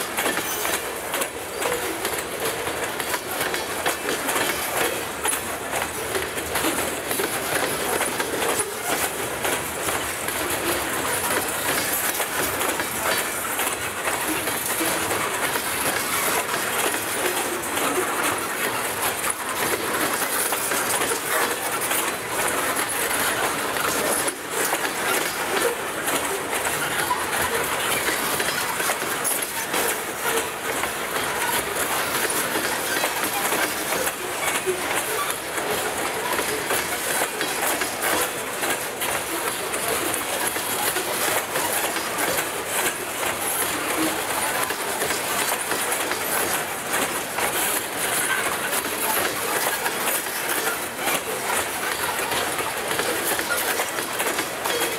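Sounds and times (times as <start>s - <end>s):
train wheels rumbling on rails: 0.0s - 54.9s
wheel clicks over rail joints: 0.0s - 54.9s.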